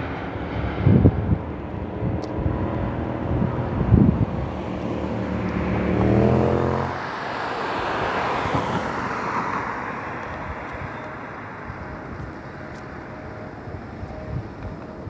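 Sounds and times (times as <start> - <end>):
engine with rising pitch: 0.0 - 15.0
jet plane landing: 0.0 - 15.0.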